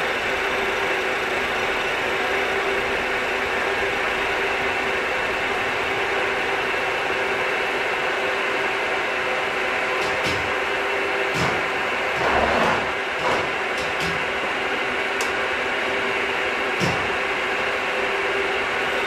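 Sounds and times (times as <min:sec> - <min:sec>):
milling machine humming: 0:00.1 - 0:19.0.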